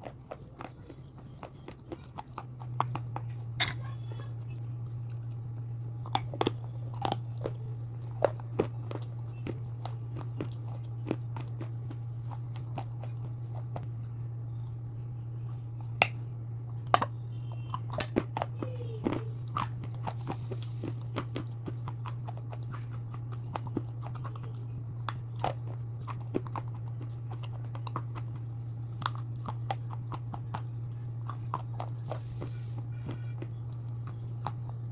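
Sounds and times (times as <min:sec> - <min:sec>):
crunchy chewing: 0:00.0 - 0:34.9
low electrical hum: 0:00.0 - 0:34.9.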